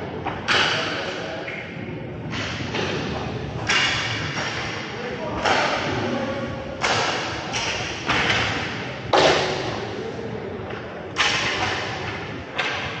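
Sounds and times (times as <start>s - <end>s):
puck and sticks hitting boards: 0.1s - 13.0s.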